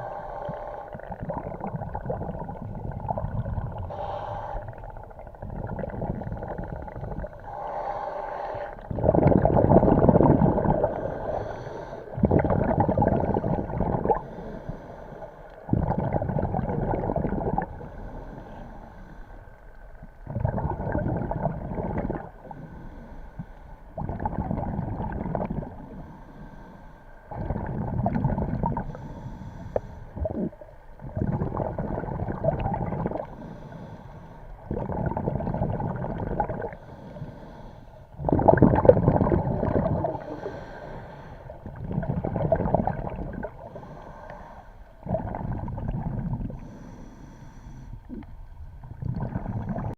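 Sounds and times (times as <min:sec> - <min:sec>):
diver inhaling through regulator: 0:00.0 - 0:01.2, 0:03.7 - 0:05.2, 0:05.8 - 0:19.6, 0:20.3 - 0:48.4
bubbling rush of exhaled air: 0:00.0 - 0:14.8, 0:15.7 - 0:18.4, 0:20.2 - 0:22.6, 0:23.9 - 0:26.0, 0:27.3 - 0:33.8, 0:34.6 - 0:36.9, 0:38.1 - 0:46.9, 0:48.0 - 0:49.9.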